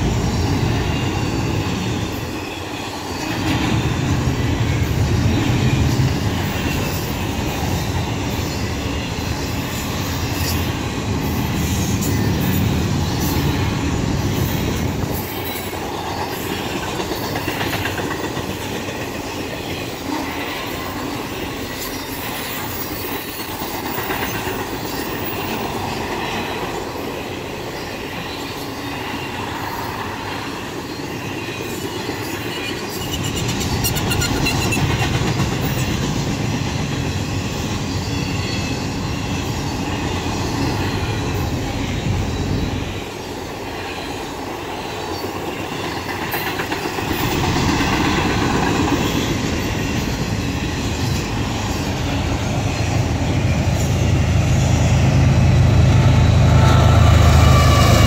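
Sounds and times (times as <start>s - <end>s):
freight train wheels rumbling and clacking: 0.0s - 58.0s.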